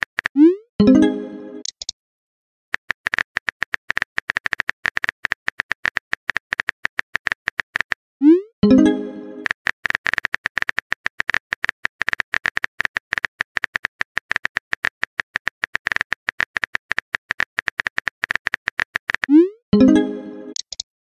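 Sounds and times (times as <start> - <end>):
keyboard typing clicks: 0.0 - 1.9, 2.8 - 8.0, 8.6 - 20.8.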